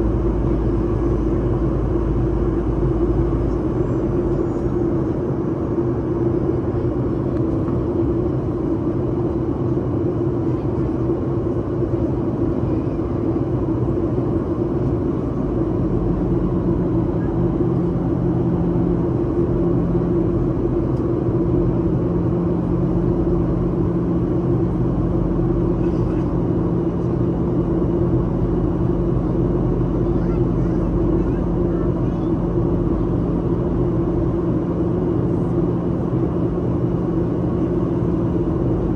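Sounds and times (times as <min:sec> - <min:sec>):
airliner cabin rumble: 0:00.0 - 0:38.9
low drone: 0:00.0 - 0:38.9
steady hum: 0:00.0 - 0:38.9.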